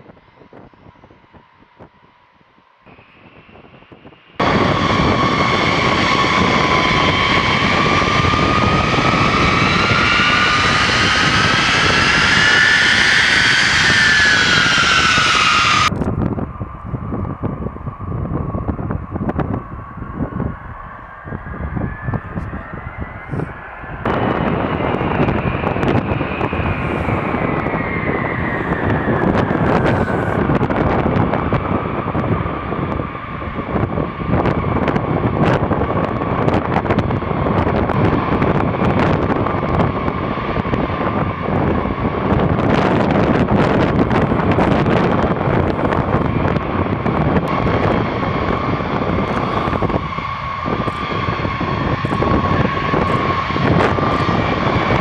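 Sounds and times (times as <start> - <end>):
high turbine whine: 0.0 - 55.0
jet engine rumble: 0.0 - 55.0.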